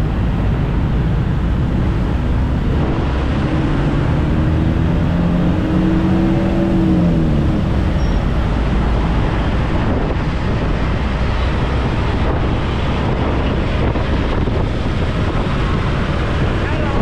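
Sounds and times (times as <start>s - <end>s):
motorbike road and engine noise: 0.0s - 17.0s
wind buffeting microphone: 0.0s - 17.0s.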